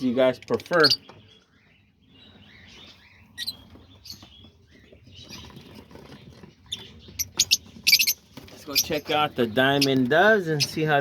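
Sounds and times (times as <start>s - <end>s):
parrots chirping: 0.7s - 11.0s.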